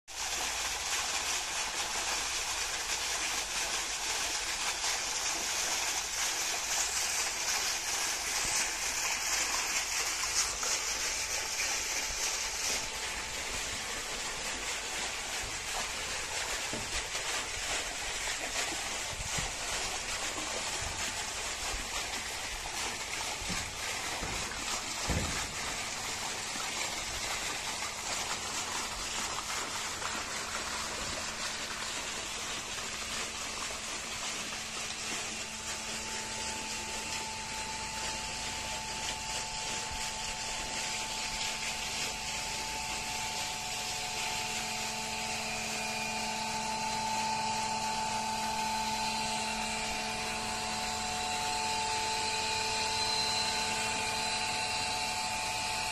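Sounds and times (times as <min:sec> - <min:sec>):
water gushing and splashing: 0:00.1 - 0:55.9.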